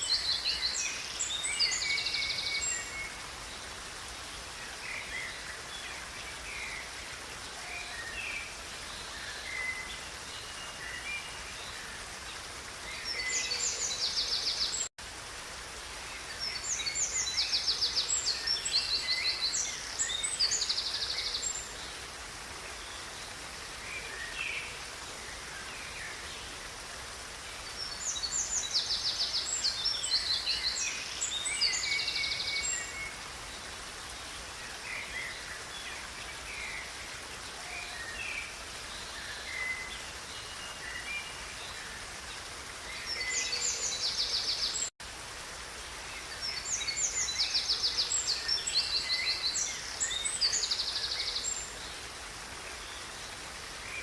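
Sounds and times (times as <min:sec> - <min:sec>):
songbirds singing: 0:00.0 - 0:14.9, 0:16.0 - 0:44.9, 0:46.0 - 0:54.0.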